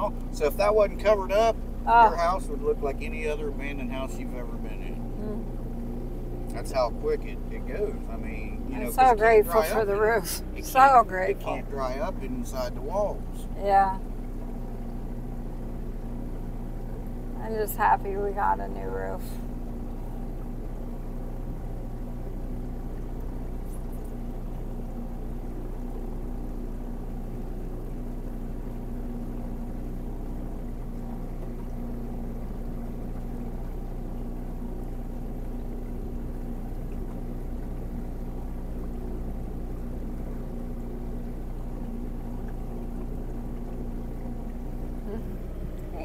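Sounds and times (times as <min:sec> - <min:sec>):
motorboat engine running: 0:00.0 - 0:46.0
water rushing along hull: 0:00.0 - 0:46.0.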